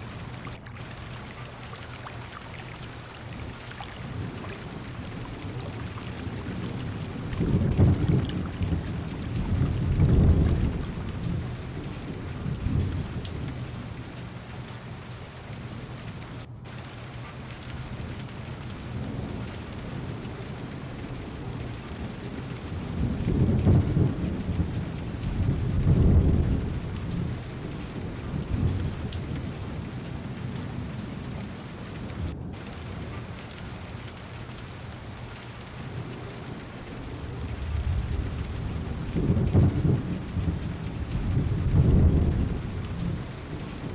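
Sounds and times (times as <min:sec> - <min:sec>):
thunder rolling: 0:00.0 - 0:14.0, 0:18.8 - 0:43.9
heavy rain on car window: 0:00.0 - 0:43.9.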